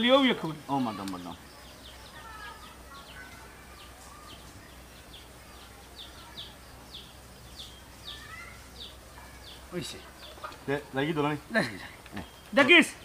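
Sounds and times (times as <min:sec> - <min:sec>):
bird high falling chirps: 0:00.0 - 0:13.0
faint bird calls: 0:00.0 - 0:13.0.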